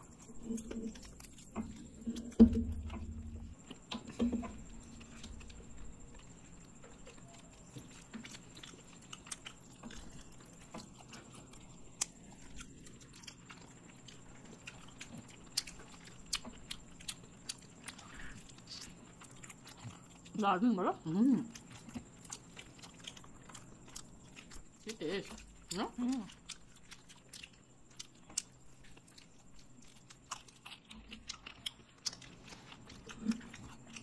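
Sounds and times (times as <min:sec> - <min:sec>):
chewing fried chicken: 0:00.0 - 0:34.0.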